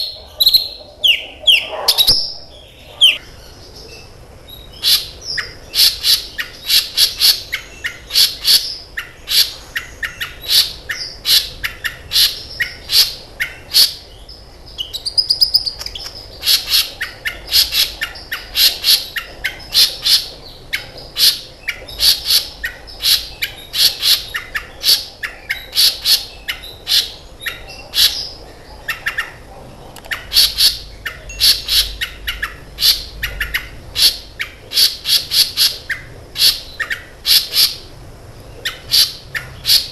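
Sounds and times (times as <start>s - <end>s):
sunbird singing high chirps: 0.0s - 29.4s, 30.1s - 37.9s.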